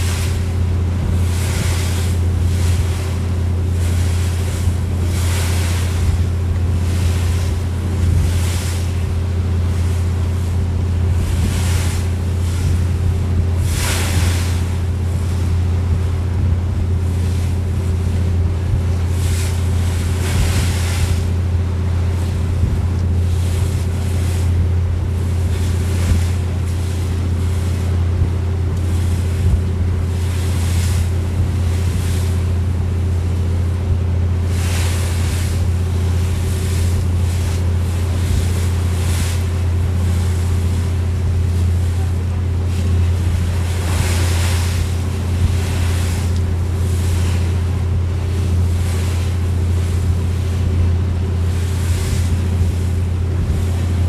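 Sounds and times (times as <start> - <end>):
boat engine drone: 0.0 - 54.0
water rushing along hull: 0.0 - 54.0
wind buffeting microphone: 0.0 - 54.0.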